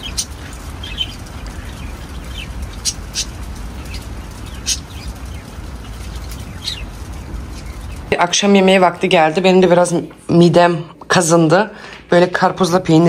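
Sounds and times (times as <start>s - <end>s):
birds chirping: 0.0s - 10.7s
rain pattering: 0.0s - 13.0s.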